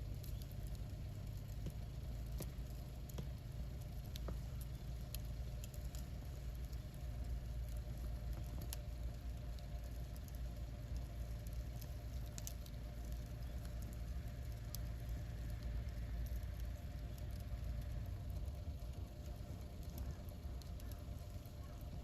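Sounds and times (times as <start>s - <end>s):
low fire rumble: 0.0s - 22.0s
wood crackling and popping: 0.0s - 22.0s.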